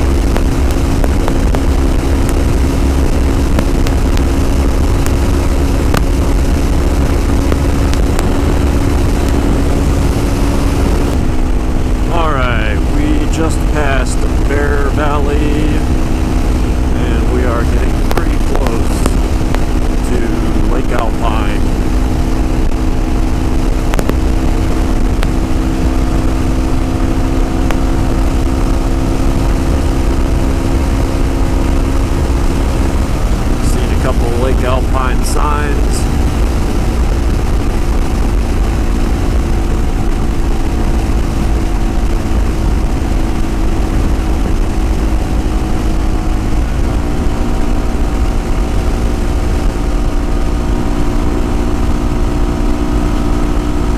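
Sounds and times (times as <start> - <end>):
motorcycle engine running steadily: 0.0 - 53.9
wind rumble on microphone: 0.0 - 53.9.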